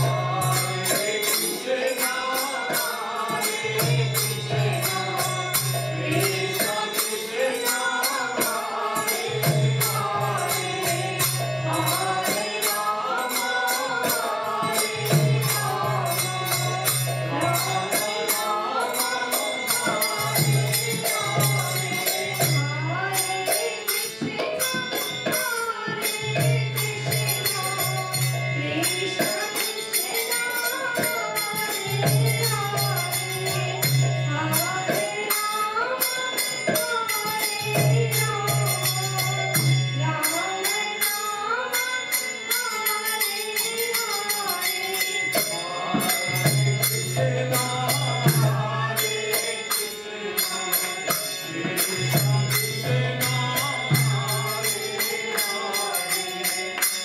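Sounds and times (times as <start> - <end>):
harmonium: 0.0 - 57.0
small hand cymbals: 0.0 - 57.0
voices chanting a mantra: 0.0 - 57.0.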